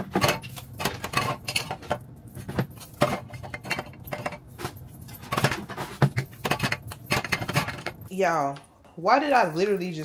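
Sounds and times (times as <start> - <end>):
household items clinking and knocking: 0.0 - 8.6.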